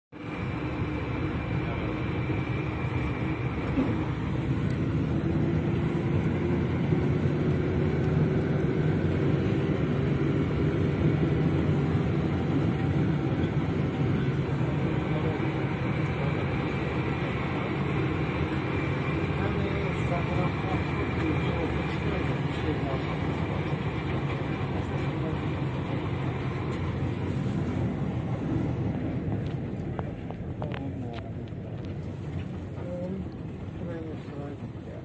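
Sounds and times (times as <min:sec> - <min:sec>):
bus engine drone: 0:00.1 - 0:35.0.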